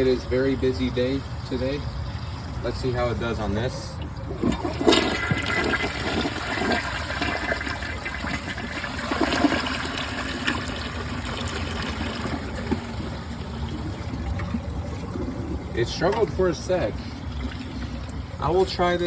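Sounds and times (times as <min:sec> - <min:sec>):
toilet flushing: 0:00.0 - 0:19.0.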